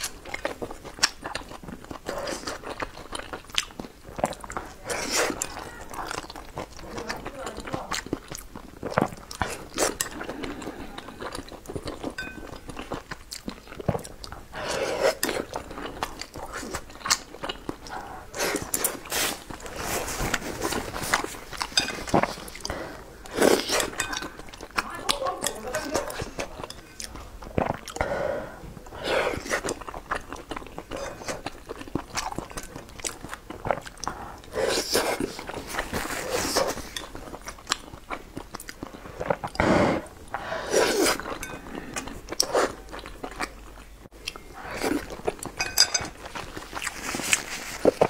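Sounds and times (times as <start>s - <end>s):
person chewing wet mouth sounds: 0.0s - 48.0s.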